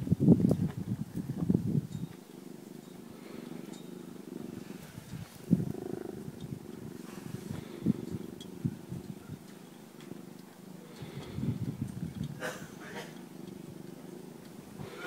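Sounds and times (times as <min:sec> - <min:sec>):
cat purring: 0:02.2 - 0:15.0.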